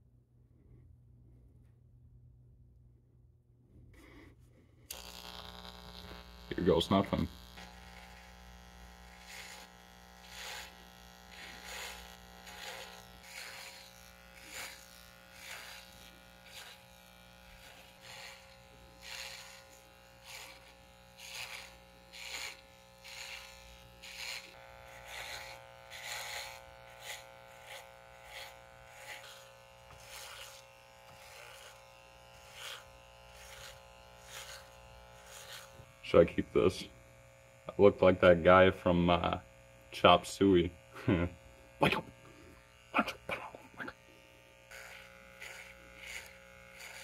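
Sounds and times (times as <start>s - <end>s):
electric shaver buzzing through beard: 4.9s - 47.0s.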